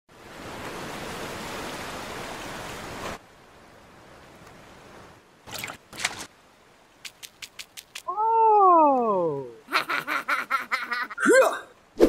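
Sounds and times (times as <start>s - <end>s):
rushing water: 0.1s - 12.0s.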